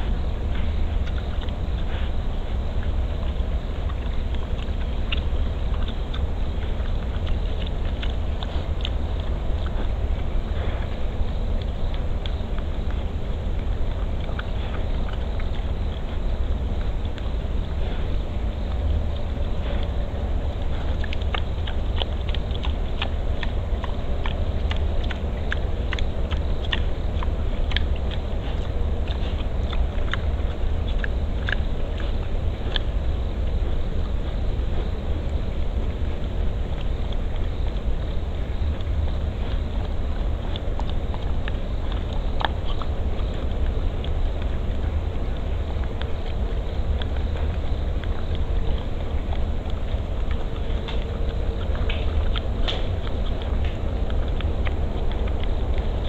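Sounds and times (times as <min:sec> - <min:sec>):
boar chewing and crunching: 0:00.0 - 0:56.0
steady low rumble: 0:00.0 - 0:56.0.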